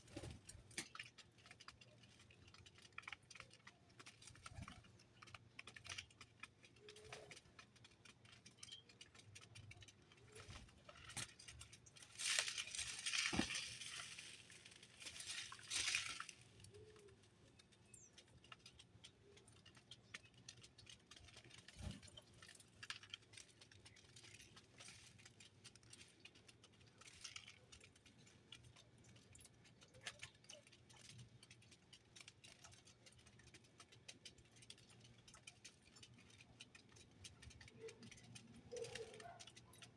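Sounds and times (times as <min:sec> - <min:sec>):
birds pecking and tapping: 0:00.0 - 0:39.9.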